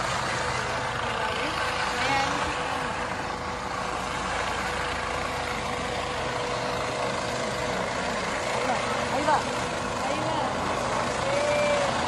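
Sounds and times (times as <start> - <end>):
helicopter hovering overhead: 0.0 - 12.0.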